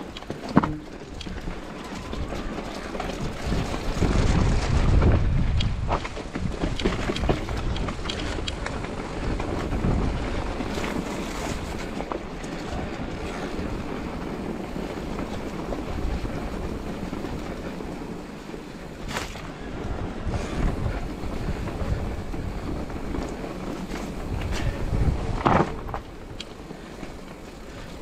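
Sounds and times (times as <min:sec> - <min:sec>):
bike tyres rolling on gravel: 0:00.0 - 0:28.0
stones and bike rattling: 0:00.0 - 0:28.0
wind buffeting microphone: 0:00.0 - 0:28.0.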